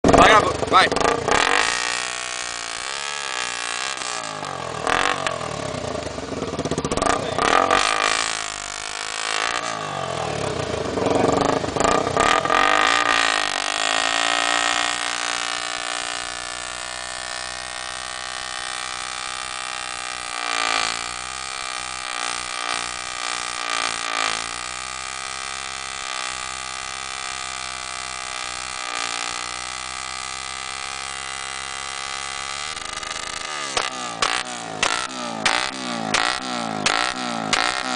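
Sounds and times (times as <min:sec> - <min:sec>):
motorcycle engine idling: 0:00.0 - 0:37.9
motorcycle engine revving: 0:00.0 - 0:37.9.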